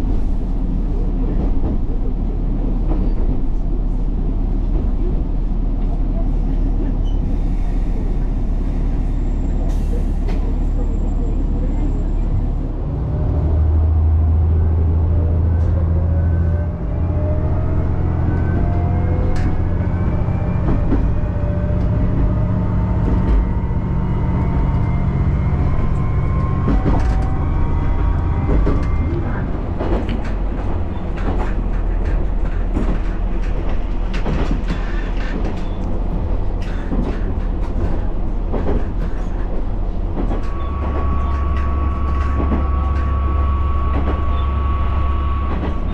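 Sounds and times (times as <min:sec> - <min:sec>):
diesel railcar engine whine: 0:00.0 - 0:45.9.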